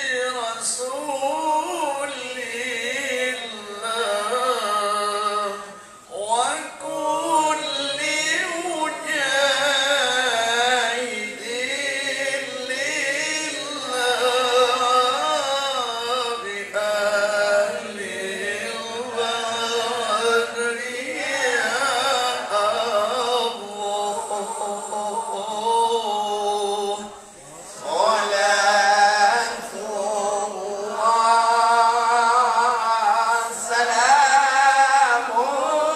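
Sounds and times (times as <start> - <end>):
man reciting melodically: 0.0 - 35.9.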